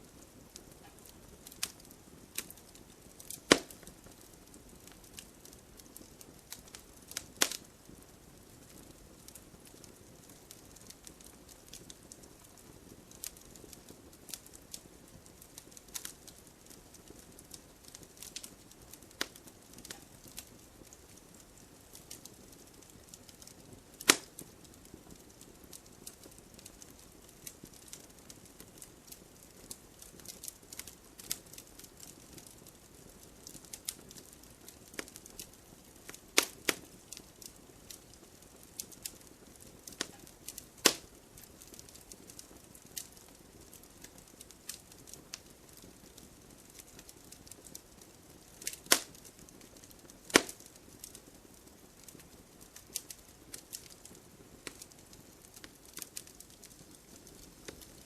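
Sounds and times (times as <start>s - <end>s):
campfire crackling and popping: 0.0s - 58.0s
faint steady hiss: 0.0s - 58.0s.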